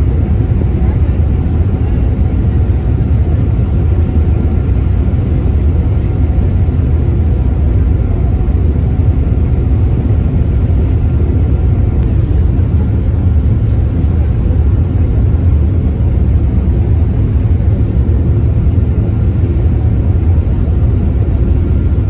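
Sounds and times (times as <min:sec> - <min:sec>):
ferry engine rumbling: 0:00.0 - 0:22.0.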